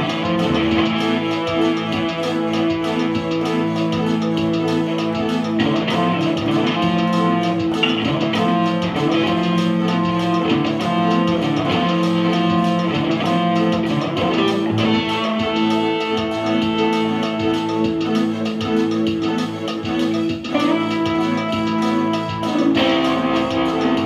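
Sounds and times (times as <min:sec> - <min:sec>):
electric guitar through amp: 0:00.0 - 0:24.0
electronic keyboard chords: 0:00.0 - 0:24.0.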